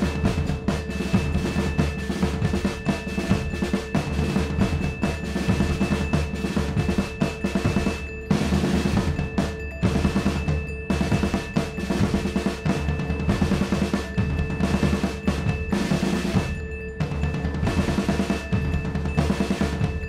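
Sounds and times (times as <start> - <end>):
drumming and drum rolls: 0.0 - 20.0.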